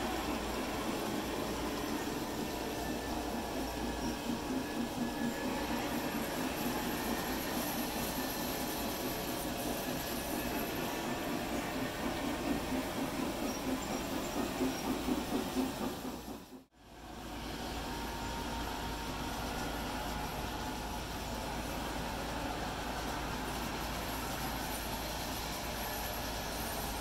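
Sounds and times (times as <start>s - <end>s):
model train wheels rolling: 0.0s - 27.0s.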